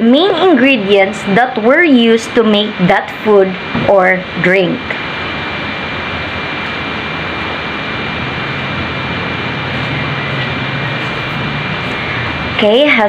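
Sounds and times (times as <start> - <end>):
faint high whine: 0.0 - 13.0
low hum: 0.0 - 13.0
steady rushing noise: 0.0 - 13.0.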